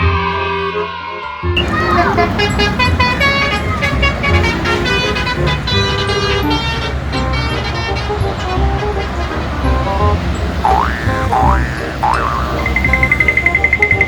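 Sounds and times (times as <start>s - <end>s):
multi-tone bus horn tooting: 0.0s - 14.0s
vehicle engine rumble: 1.6s - 14.0s.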